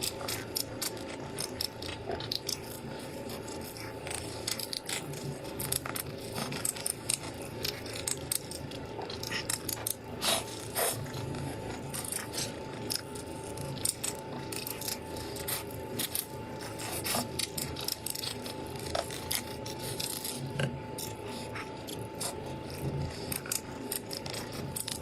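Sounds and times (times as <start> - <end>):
crunching fried chicken: 0.0 - 25.0
faint steady hum: 0.0 - 25.0.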